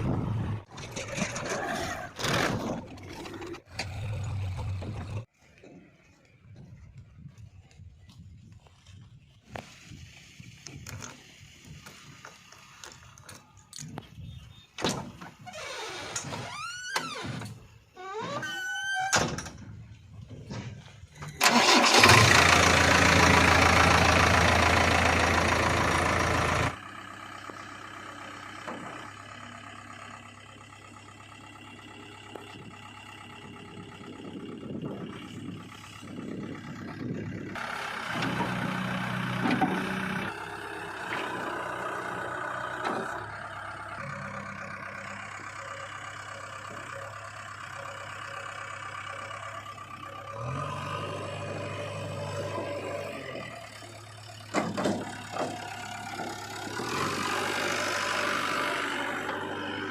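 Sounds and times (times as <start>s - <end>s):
heavy diesel engines running: 0.0s - 18.4s, 19.0s - 59.9s.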